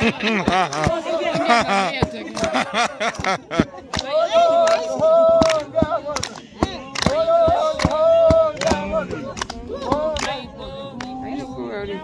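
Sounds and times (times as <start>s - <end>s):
sharp claps: 0.0s - 11.2s
women singing together: 0.2s - 12.0s.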